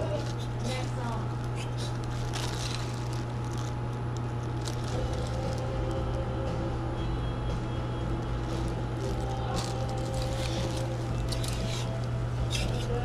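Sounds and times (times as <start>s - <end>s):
plastic bags rustling: 0.0s - 6.7s, 8.0s - 13.0s
steady low hum: 0.0s - 13.0s.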